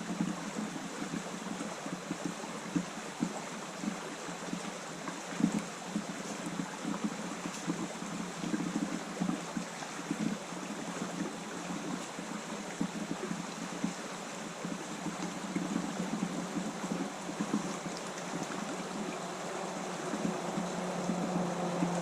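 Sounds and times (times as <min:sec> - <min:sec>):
stream water rushing and burbling: 0:00.0 - 0:22.0.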